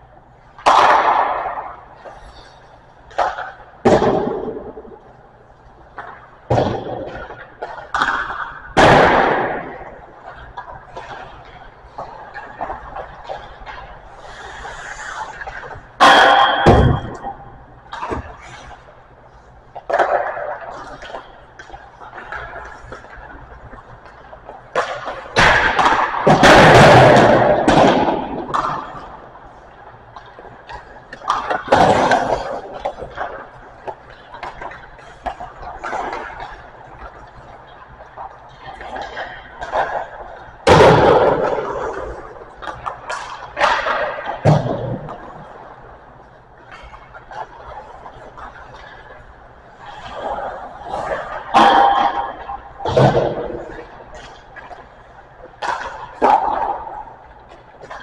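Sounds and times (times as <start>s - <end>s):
skates scraping rush: 0.0s - 58.0s
puck or stick knock: 0.6s - 5.0s, 5.9s - 18.9s, 19.8s - 29.4s, 30.1s - 46.0s, 46.6s - 58.0s.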